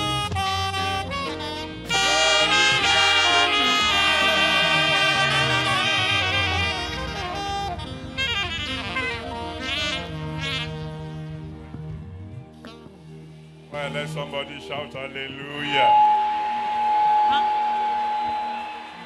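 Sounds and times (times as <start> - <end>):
saxophones playing lively melody: 0.0 - 16.3.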